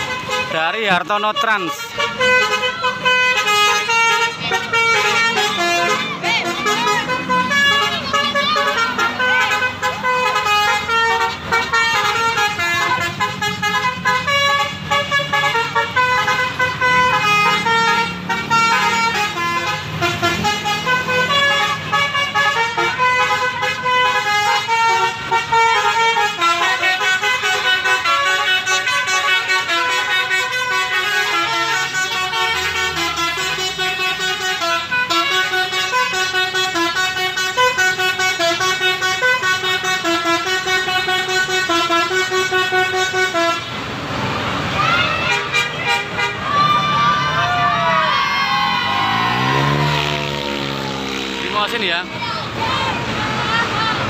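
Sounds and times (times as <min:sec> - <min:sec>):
multi-tone horn melody: 0:00.0 - 0:43.8, 0:45.1 - 0:46.8, 0:48.7 - 0:52.1.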